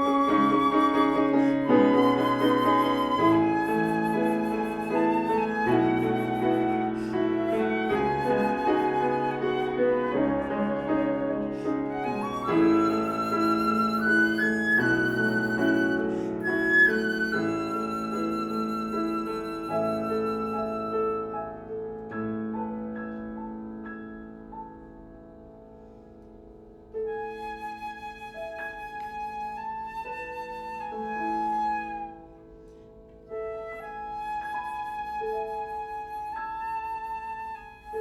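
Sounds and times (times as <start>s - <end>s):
flute: 0.0s - 24.2s, 27.0s - 38.0s
piano chords: 0.0s - 38.0s.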